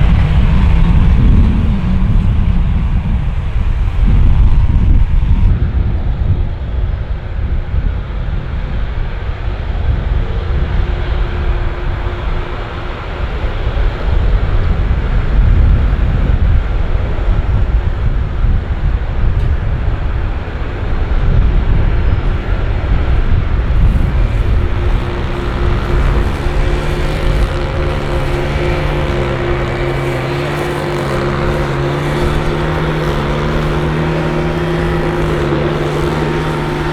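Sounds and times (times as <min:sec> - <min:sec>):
jet airliner engines rumbling: 0:00.0 - 0:36.9
wind buffeting microphone: 0:00.0 - 0:36.9.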